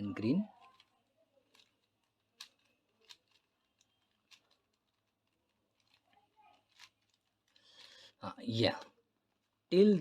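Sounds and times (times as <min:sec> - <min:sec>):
faint plastic clicks of puzzle cube: 0:00.2 - 0:09.7.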